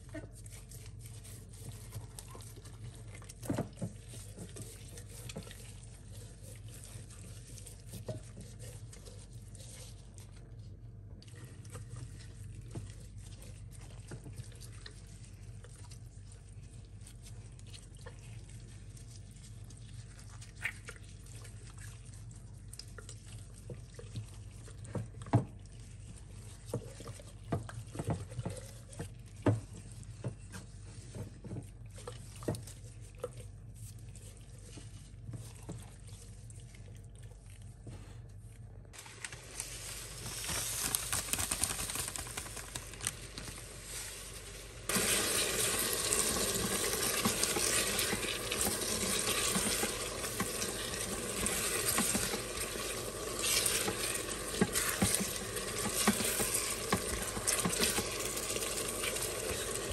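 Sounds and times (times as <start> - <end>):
spatula stirring in pot: 0.0 - 38.9, 43.0 - 59.9
gloved hands rubbing chicken: 0.0 - 59.9.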